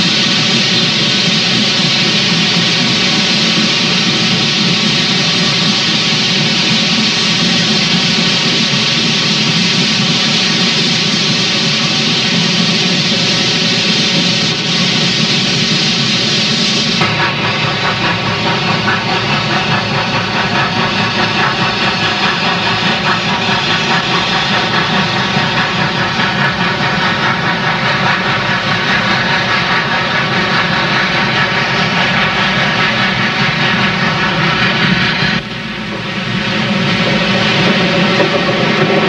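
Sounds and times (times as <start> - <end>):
continuous roar: 0.0 - 39.0
steam locomotive chuffing: 0.0 - 39.0.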